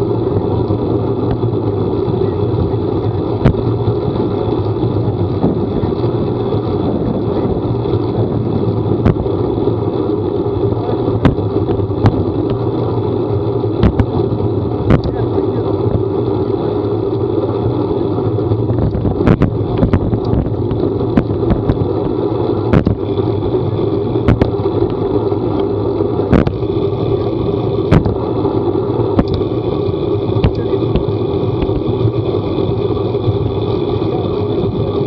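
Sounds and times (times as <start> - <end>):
vehicle road noise with low hum: 0.0 - 35.0.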